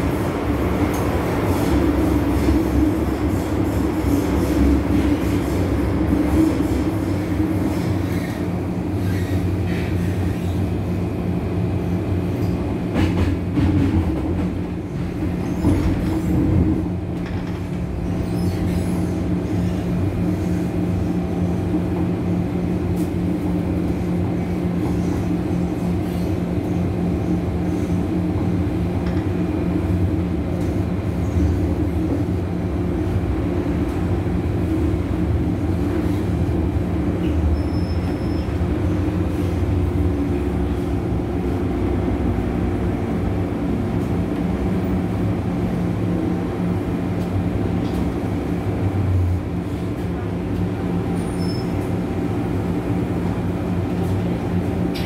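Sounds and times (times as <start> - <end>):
wheel and track rumble: 0.0 - 55.0.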